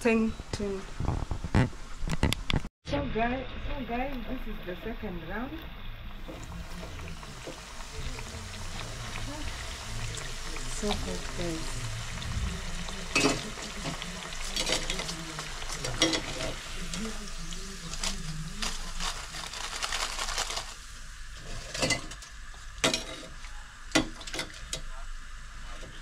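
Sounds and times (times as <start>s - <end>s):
food sizzling in hot oil: 3.8s - 26.0s.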